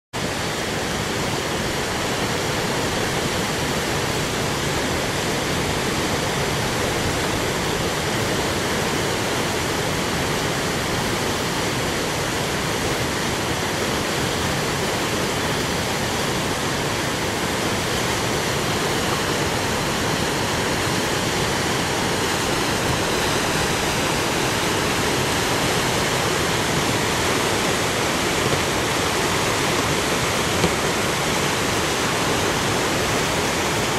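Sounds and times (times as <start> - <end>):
whitewater rushing: 0.2 - 33.9.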